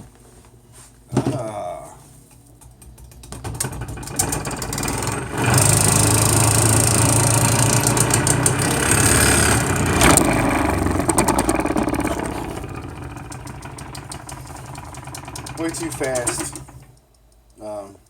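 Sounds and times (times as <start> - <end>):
fan motor humming and whirring: 2.0 - 17.6.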